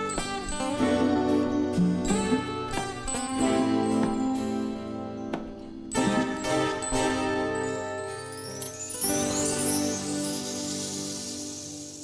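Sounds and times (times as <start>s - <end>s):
band playing plucked strings: 0.0s - 11.8s.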